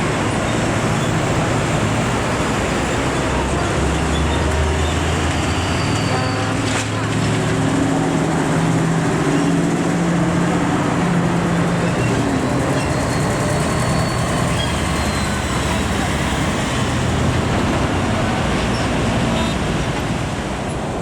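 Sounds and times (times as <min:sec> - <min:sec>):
diesel truck engine running: 0:00.0 - 0:21.0
steady traffic noise: 0:00.0 - 0:21.0.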